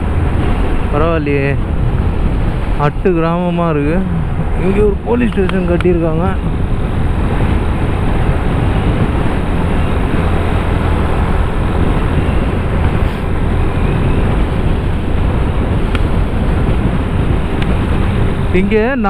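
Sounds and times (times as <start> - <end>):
motorcycle engine and tyre noise: 0.0 - 19.0
wind rushing over microphone: 0.0 - 19.0.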